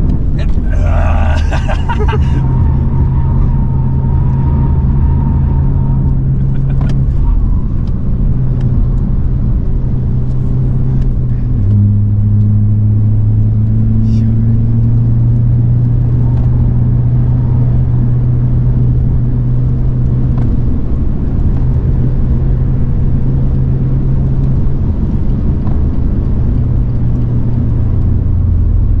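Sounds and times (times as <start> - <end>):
car engine droning: 0.0 - 29.0
road noise: 0.0 - 29.0.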